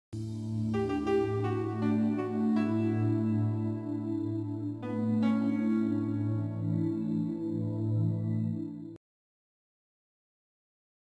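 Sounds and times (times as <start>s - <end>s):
calm music with held tones: 0.2s - 9.0s.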